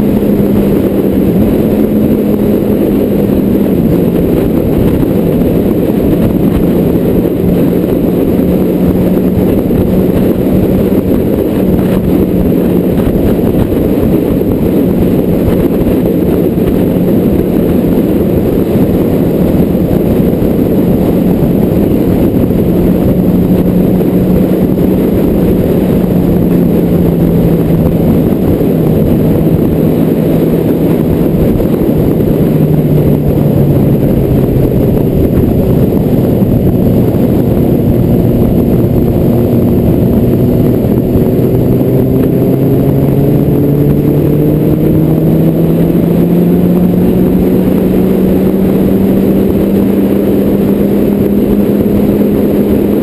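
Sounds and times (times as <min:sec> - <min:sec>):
car engine drone: 0:00.0 - 0:53.0
road and wind rumble: 0:00.0 - 0:53.0.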